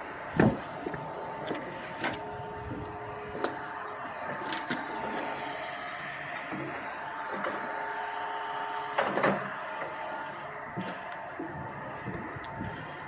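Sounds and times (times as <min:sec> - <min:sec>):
machinery whining: 0:00.0 - 0:13.0.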